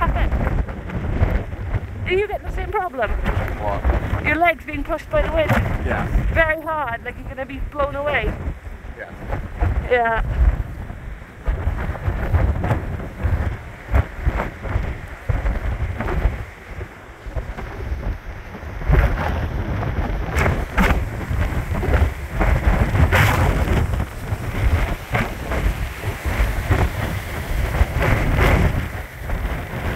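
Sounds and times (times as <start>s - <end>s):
storm wind buffeting microphone: 0.0s - 29.9s.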